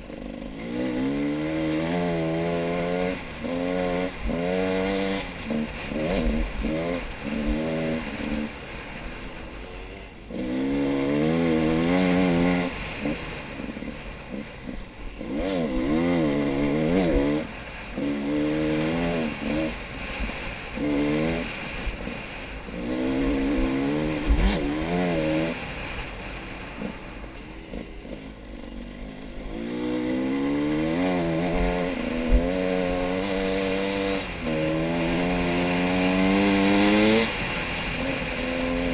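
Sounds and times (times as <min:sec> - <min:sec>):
vehicle engine revving: 0:00.0 - 0:08.7, 0:09.6 - 0:38.9.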